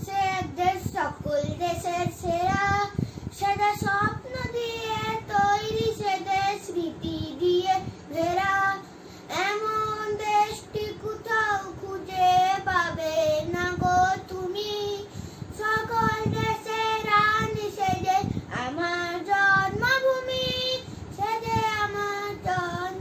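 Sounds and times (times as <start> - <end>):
boy singing: 0.0 - 23.0.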